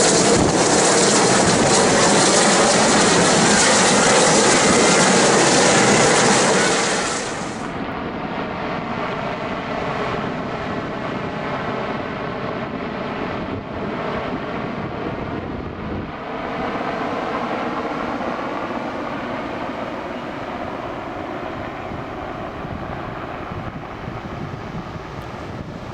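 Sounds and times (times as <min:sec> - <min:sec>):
helicopter engines and rotor: 0:00.0 - 0:25.9.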